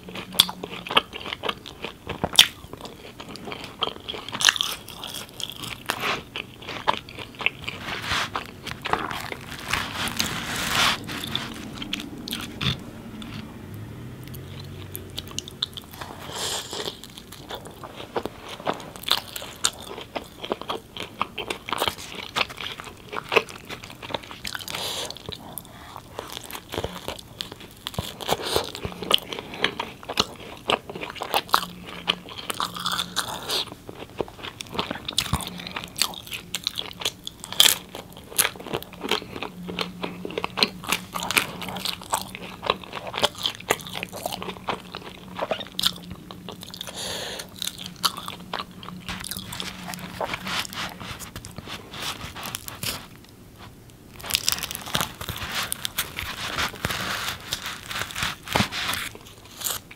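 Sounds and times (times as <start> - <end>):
biting and chewing bread: 0.0 - 13.6, 14.2 - 59.9.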